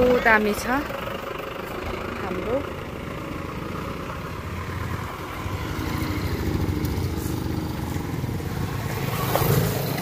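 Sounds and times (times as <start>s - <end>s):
car engines passing slowly: 0.0s - 10.0s
motorcycle engines: 0.0s - 10.0s.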